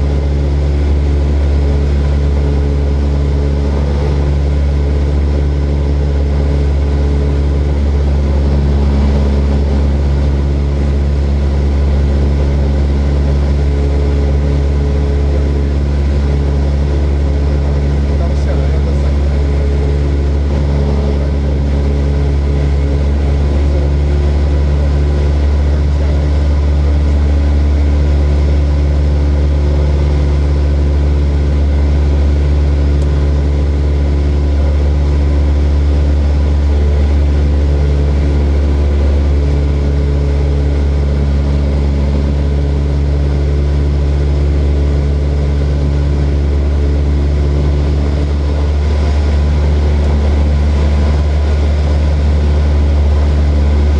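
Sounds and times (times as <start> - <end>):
propeller airplane engine drone: 0.0 - 53.9.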